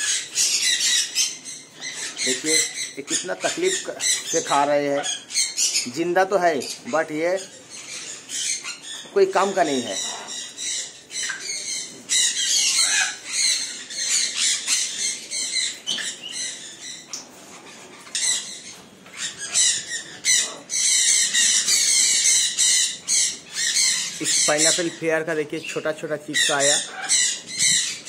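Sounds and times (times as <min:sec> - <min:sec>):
parrots squawking: 0:00.0 - 0:28.0.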